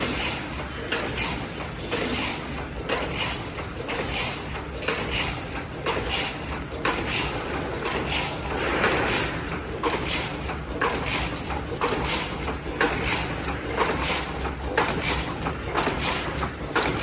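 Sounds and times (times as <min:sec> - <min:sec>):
weaving machine clattering: 0:00.0 - 0:17.0.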